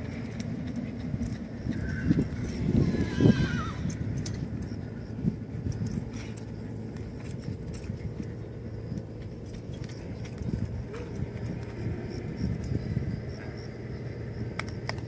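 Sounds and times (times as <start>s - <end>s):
muffled hoofbeats on dirt: 0.0s - 13.8s
steady low rumble: 0.0s - 15.0s.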